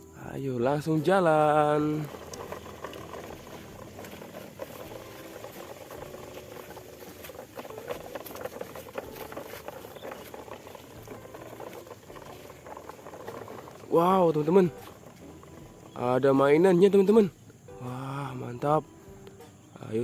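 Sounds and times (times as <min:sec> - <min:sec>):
toy truck wheels scraping ground: 0:00.6 - 0:18.0.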